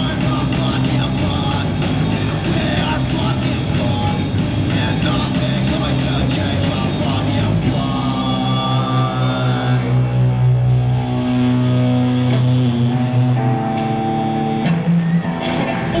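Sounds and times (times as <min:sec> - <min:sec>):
rock band guitar and bass chords: 0:00.0 - 0:16.0.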